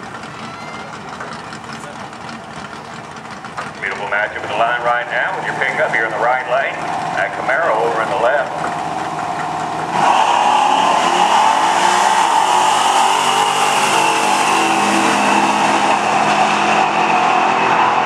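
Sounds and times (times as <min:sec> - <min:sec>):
loud engines accelerating: 0:00.0 - 0:18.0.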